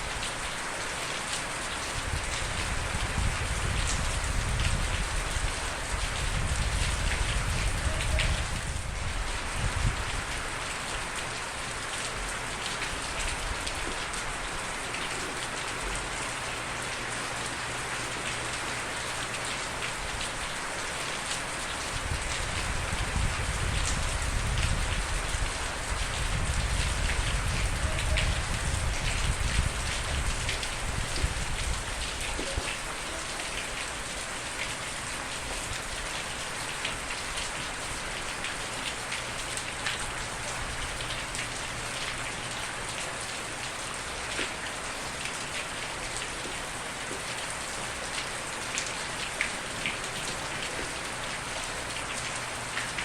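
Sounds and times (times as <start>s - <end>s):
rain falling on a surface: 0.0s - 53.0s.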